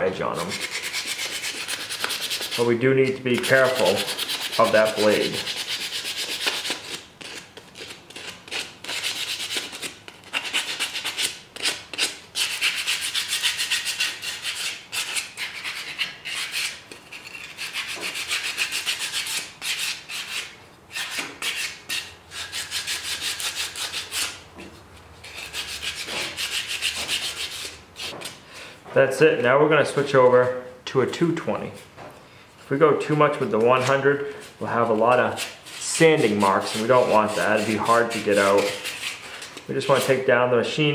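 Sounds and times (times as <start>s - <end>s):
sandpaper scraping wood: 0.3s - 24.4s, 25.2s - 28.2s, 33.6s - 40.2s.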